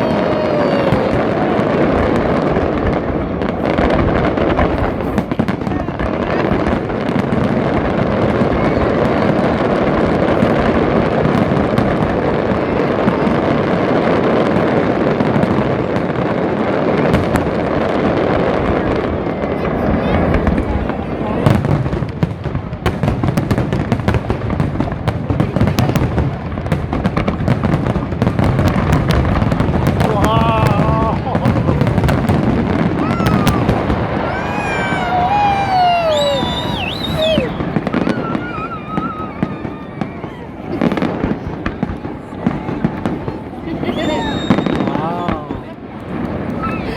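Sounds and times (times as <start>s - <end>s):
fireworks booming: 0.0s - 46.9s.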